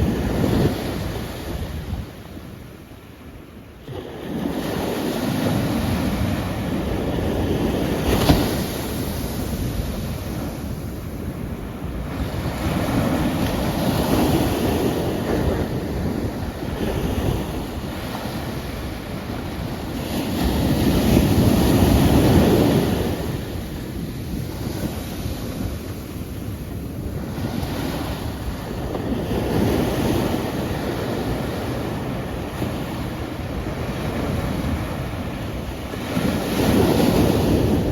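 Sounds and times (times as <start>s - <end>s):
ocean waves breaking: 0.0s - 37.9s.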